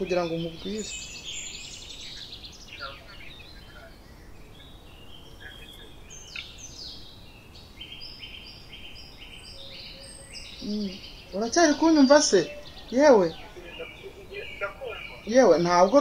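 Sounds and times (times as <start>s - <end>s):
faint steady hiss: 0.0s - 16.0s
small birds chirping: 0.0s - 16.0s.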